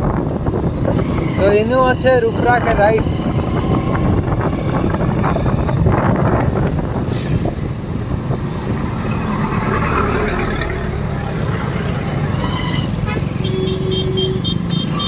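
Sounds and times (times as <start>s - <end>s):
wind rushing over microphone: 0.0s - 13.4s
road traffic: 0.0s - 15.0s
truck passing close: 2.6s - 15.0s.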